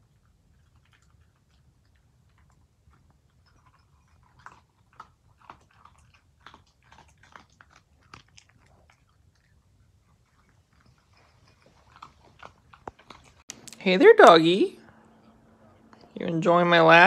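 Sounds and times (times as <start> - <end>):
dog crunching dry kibble: 0.0 - 14.3.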